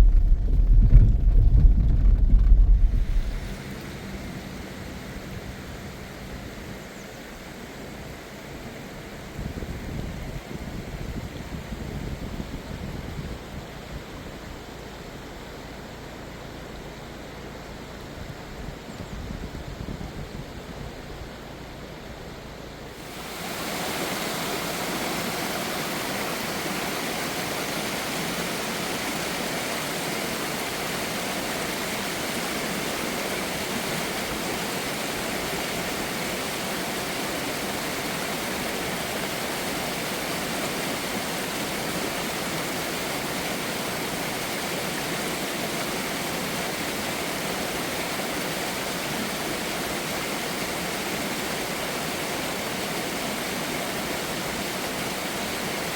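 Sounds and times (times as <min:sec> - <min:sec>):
water rushing: 0:00.0 - 0:18.5, 0:21.0 - 0:55.9.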